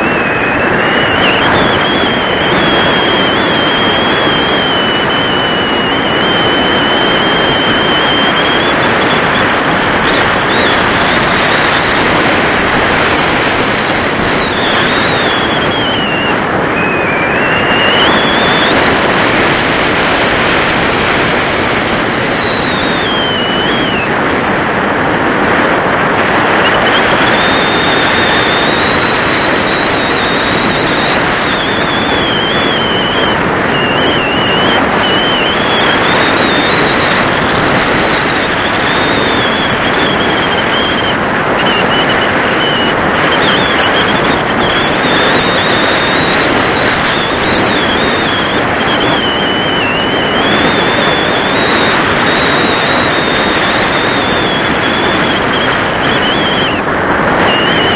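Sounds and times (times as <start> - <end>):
high whistle: 0.0 - 24.2, 26.4 - 57.9
airflow rushing over camera: 0.0 - 57.9.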